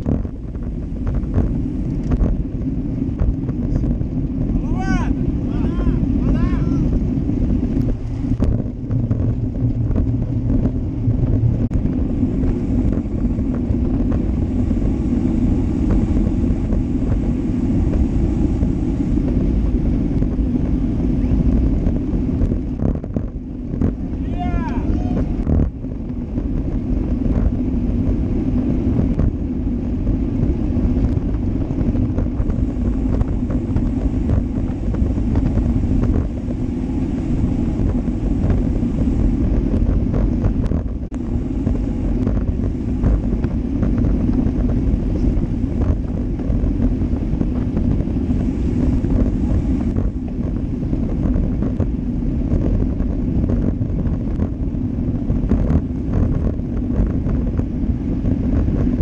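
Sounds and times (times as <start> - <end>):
tyre noise on asphalt: 0.0 - 59.0
wind buffeting microphone: 0.0 - 59.0.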